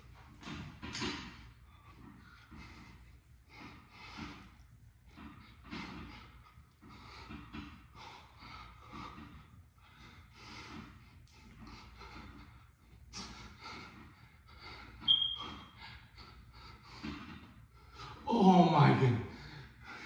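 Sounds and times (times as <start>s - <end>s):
man breathing heavily: 1.5s - 20.0s.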